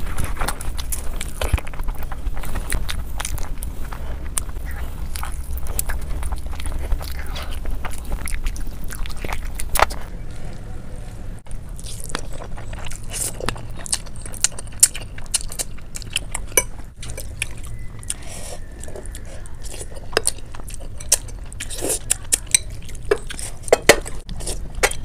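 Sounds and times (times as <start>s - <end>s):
chewing with sharp clicks: 0.0s - 10.7s, 11.4s - 25.0s
wet chewing and mouth smacking: 0.0s - 10.7s, 11.4s - 25.0s.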